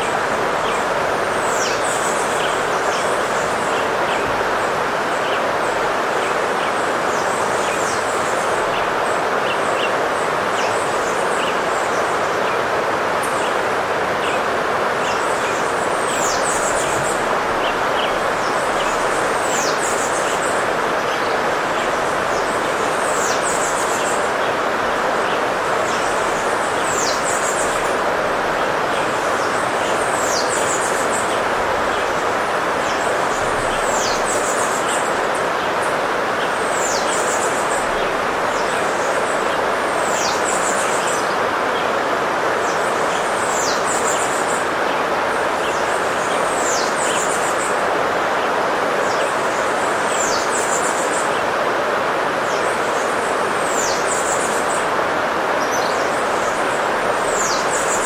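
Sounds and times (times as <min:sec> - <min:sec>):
birdsong: 0:00.0 - 0:58.0
stream rushing: 0:00.0 - 0:58.0.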